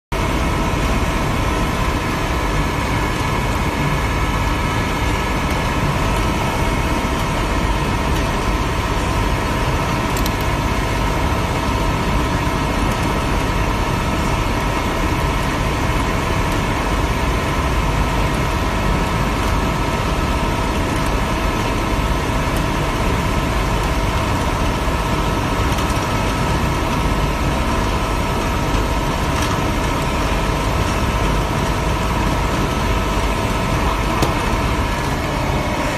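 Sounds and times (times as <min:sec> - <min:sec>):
sand mixer rumbling and whining: 0:00.1 - 0:35.9.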